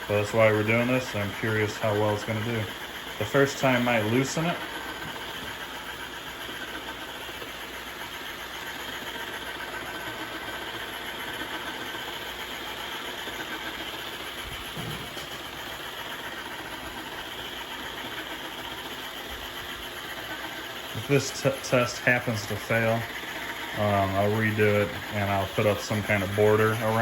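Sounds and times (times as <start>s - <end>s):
robot vacuum mop buzzing: 0.0s - 27.0s.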